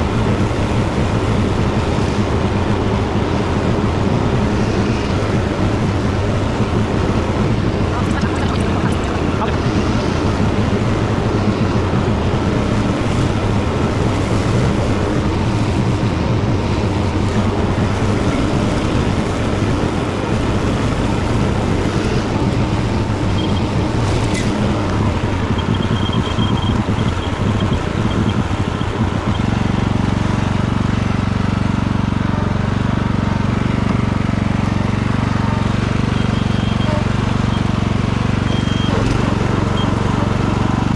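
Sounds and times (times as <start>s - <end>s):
tractor engine mowing: 0.0s - 40.9s.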